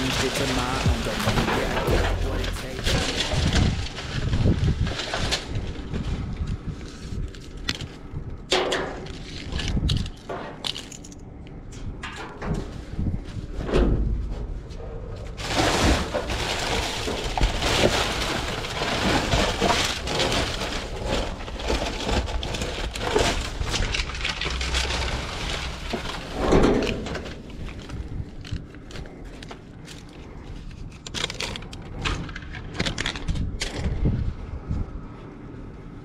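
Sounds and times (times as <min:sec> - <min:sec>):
rummaging through trash: 0:00.0 - 0:11.2, 0:12.2 - 0:34.1.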